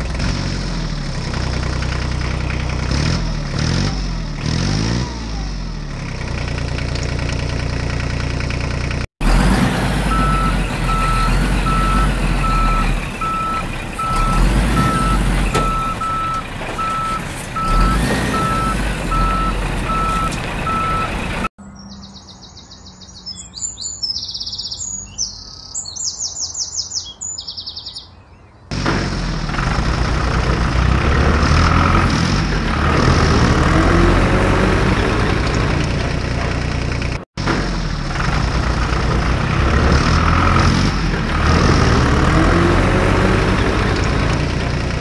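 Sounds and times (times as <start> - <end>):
heavy engine revving: 0.0 - 21.5, 28.7 - 45.0.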